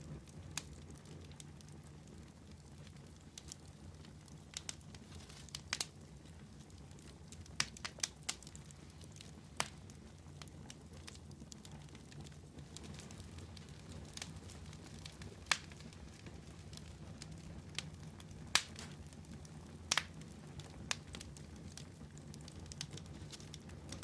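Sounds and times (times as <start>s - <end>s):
campfire crackling: 0.0s - 24.0s
sharp pops of burning wood: 0.2s - 24.0s.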